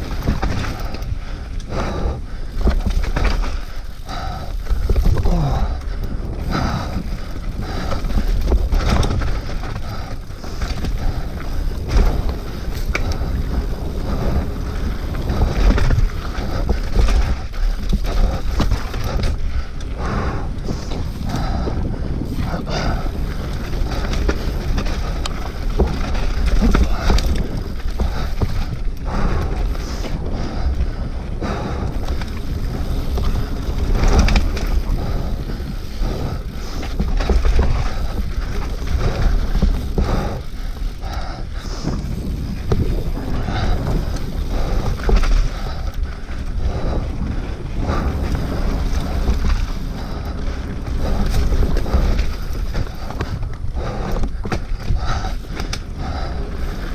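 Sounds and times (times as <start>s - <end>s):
bike rattling over bumps: 0.0s - 56.9s
tyres rolling over dirt: 0.0s - 56.9s
wind buffeting microphone: 0.0s - 56.9s.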